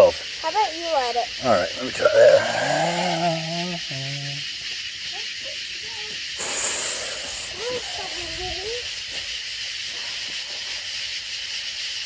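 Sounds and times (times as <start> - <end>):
firework spinner hissing: 0.0 - 12.0.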